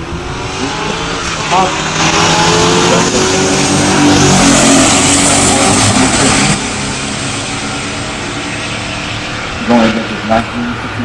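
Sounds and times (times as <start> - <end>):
car engines at full throttle: 0.0 - 11.0.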